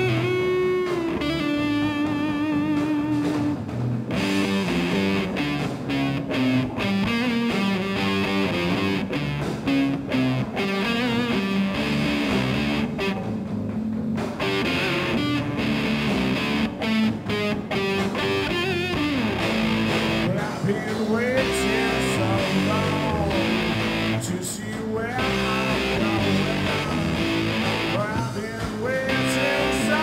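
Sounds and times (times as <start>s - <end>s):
band playing a song: 0.0s - 30.0s
guitar: 0.0s - 30.0s.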